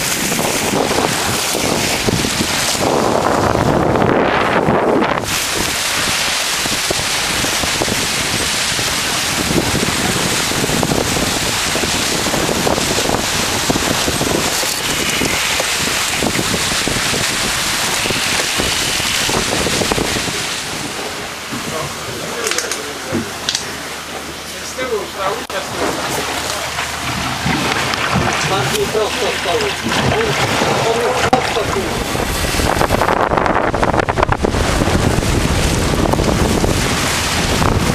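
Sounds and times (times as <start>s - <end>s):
wind buffeting microphone: 0.0s - 24.5s, 25.2s - 37.9s
water rushing along hull: 0.0s - 37.9s.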